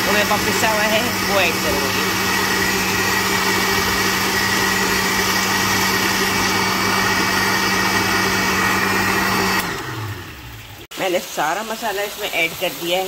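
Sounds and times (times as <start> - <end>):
blender running: 0.0 - 10.9.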